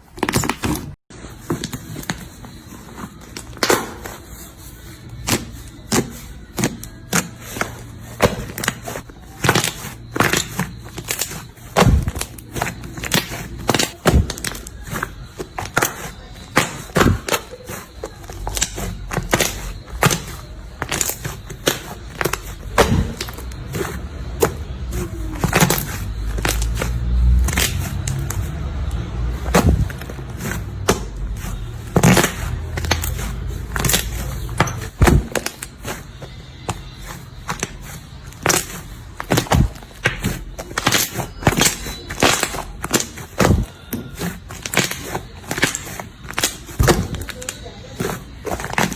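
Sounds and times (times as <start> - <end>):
slime popping and crackling: 5.1 - 48.9.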